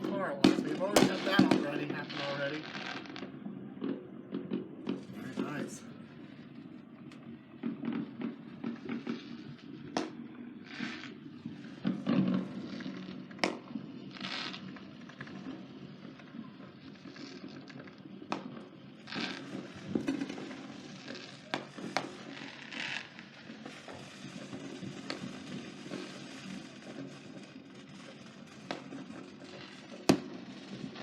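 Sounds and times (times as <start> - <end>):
fireworks bangs: 0.0 - 31.0
fireworks crackling bursts: 0.0 - 31.0.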